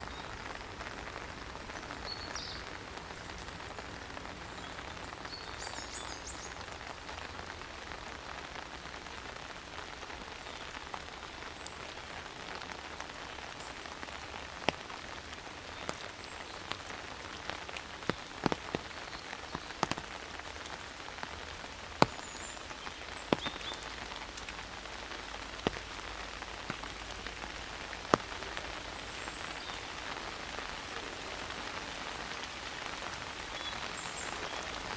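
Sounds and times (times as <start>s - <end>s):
heavy raindrops tapping: 0.0s - 34.9s
rain falling on trees: 0.0s - 34.9s.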